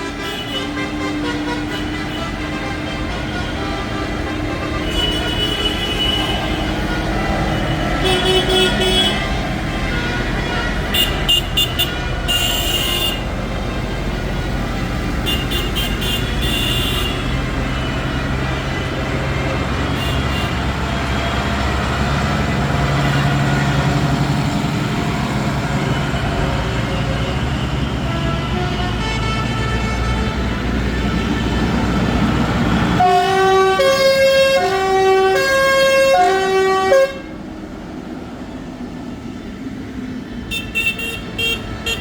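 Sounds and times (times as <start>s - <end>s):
horns tooting: 0.0s - 37.4s, 40.4s - 42.0s
tractor engines rumbling: 0.0s - 42.0s.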